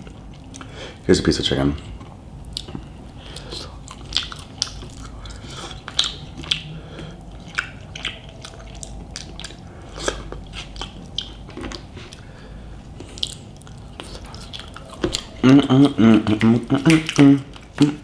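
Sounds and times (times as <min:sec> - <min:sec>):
close-miked chewing: 0:00.0 - 0:01.0, 0:01.8 - 0:18.0.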